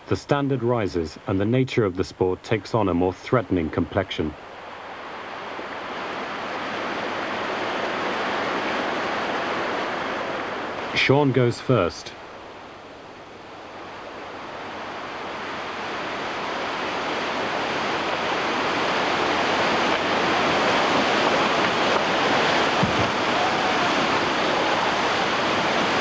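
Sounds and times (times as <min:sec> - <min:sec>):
waterfall and whitewater rushing: 0:00.0 - 0:26.0.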